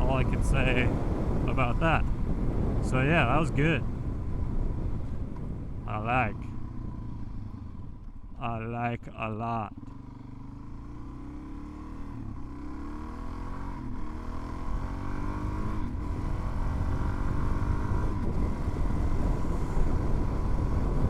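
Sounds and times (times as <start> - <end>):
motorcycle engine accelerating: 0.0 - 8.4, 9.7 - 21.0.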